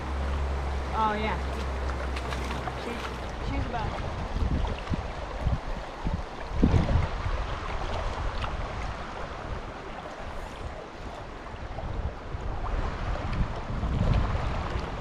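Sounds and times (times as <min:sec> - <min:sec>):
river current rushing: 0:00.0 - 0:15.0
wind buffeting microphone: 0:00.0 - 0:15.0.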